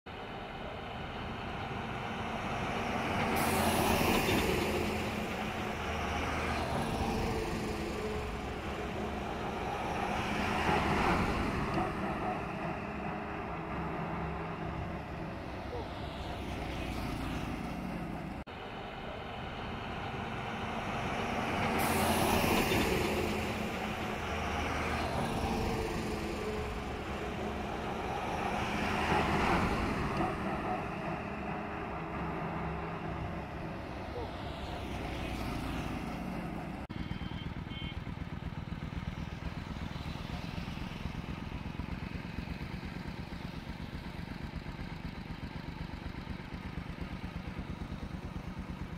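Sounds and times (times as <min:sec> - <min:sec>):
heavy vehicles passing on highway: 0:00.1 - 0:48.9.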